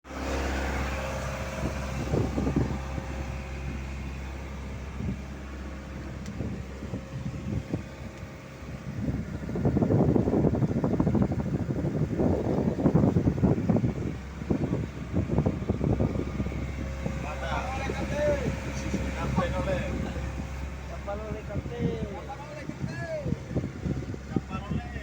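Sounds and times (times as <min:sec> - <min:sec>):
boat engine running: 0:00.0 - 0:25.0
wind buffeting microphone: 0:00.1 - 0:25.0.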